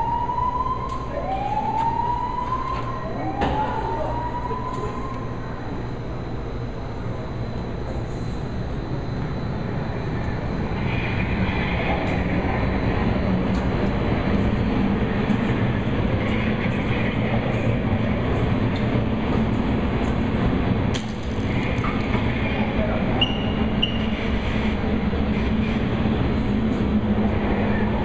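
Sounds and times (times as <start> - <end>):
wind simulator blower rushing air: 5.3 - 28.0.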